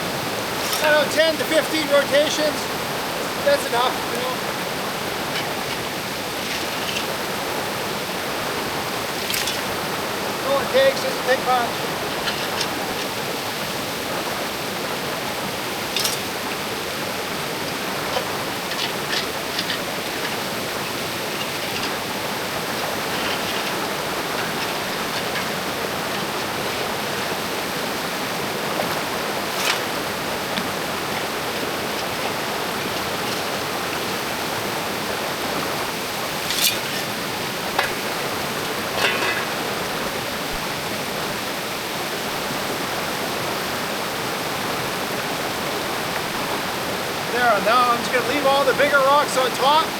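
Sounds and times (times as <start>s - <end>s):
creek water rushing: 0.0s - 49.9s.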